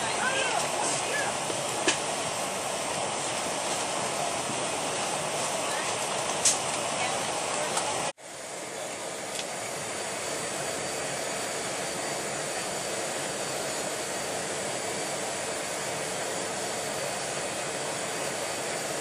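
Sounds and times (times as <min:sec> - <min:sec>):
jet aircraft noise with whine: 0:00.0 - 0:19.0.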